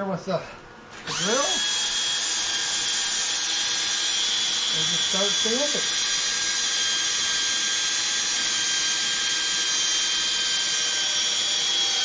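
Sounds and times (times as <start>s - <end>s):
cordless drill whining: 0.9s - 12.0s.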